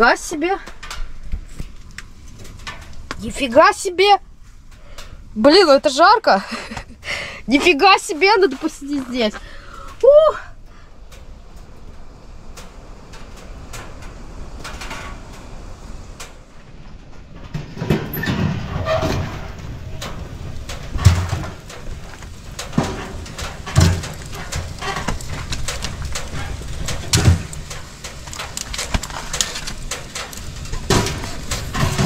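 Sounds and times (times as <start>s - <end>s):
burning logs crackling and popping: 0.0s - 32.0s.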